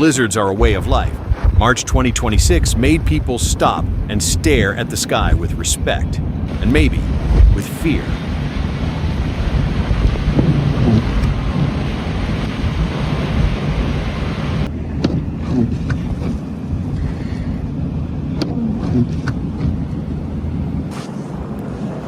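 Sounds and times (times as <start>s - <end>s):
wind rushing against microphone: 0.0s - 22.0s.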